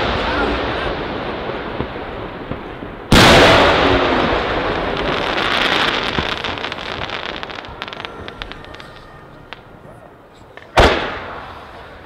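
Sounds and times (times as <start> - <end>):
firework crackling pops: 0.0 - 9.8, 10.5 - 12.0.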